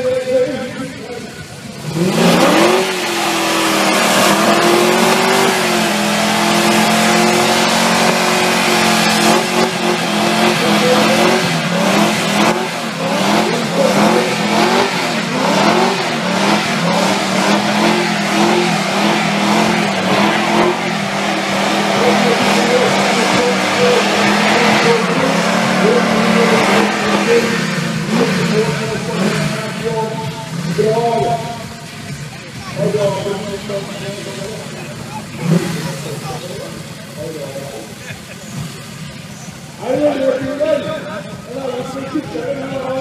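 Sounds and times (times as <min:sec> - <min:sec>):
car engine revving: 0:00.0 - 0:43.0
tyres spinning: 0:01.3 - 0:43.0.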